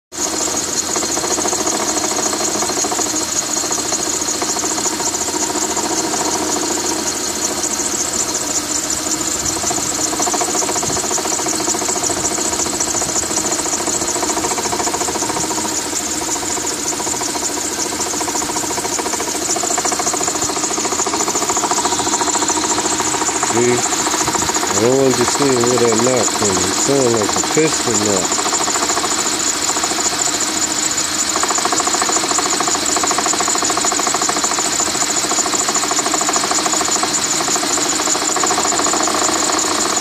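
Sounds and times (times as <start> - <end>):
car engine running: 0.2 - 40.0
fast even engine knock: 0.2 - 40.0.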